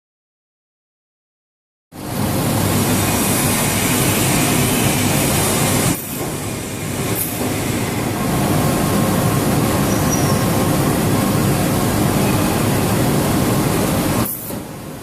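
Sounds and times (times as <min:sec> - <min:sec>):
loud industrial machinery: 0:02.0 - 0:15.0.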